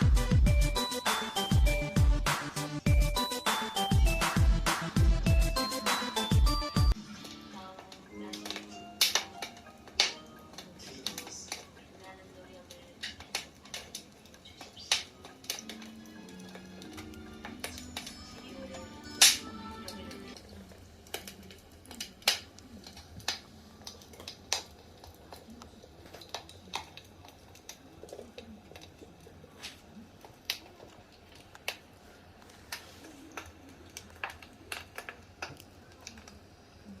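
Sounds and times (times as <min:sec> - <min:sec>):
firewood crackling and popping: 0:00.0 - 0:37.0.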